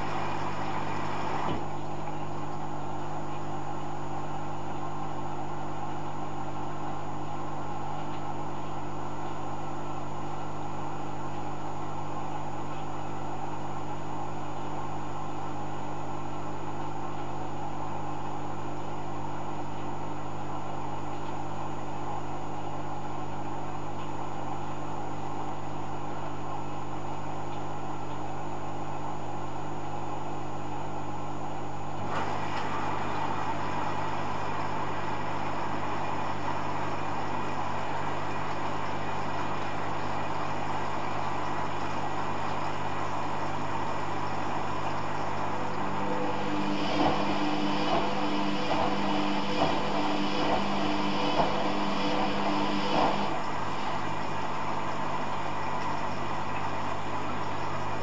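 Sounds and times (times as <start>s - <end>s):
washing machine humming: 0.0s - 58.0s.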